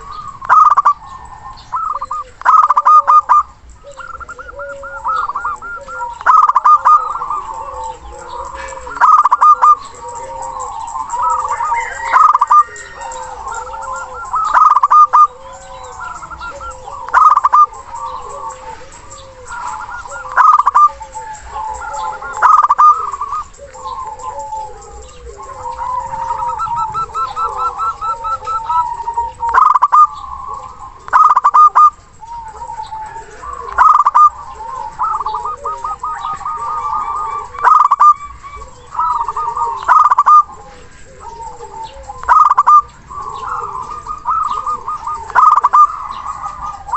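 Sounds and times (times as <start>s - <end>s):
doves cooing: 0.0s - 46.9s.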